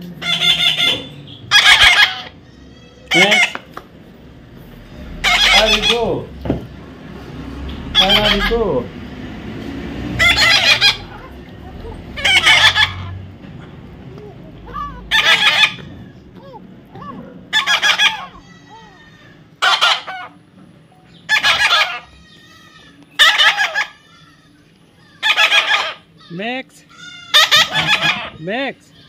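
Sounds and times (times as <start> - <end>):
parrot squawking: 0.1 - 3.8, 4.7 - 6.4, 7.8 - 8.9, 10.1 - 13.4, 14.2 - 20.4, 21.2 - 29.0.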